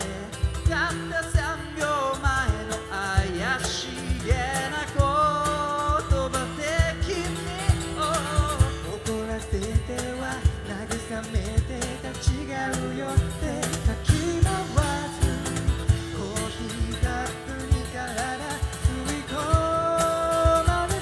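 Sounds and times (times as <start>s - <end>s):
acoustic guitar: 0.0s - 21.0s
drums with a steady beat: 0.0s - 21.0s
men singing: 0.0s - 21.0s.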